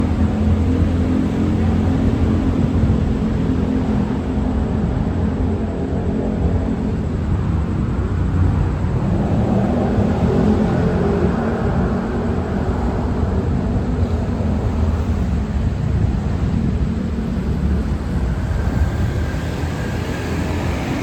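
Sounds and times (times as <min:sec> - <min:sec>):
diesel train engine hum: 0:00.0 - 0:21.0.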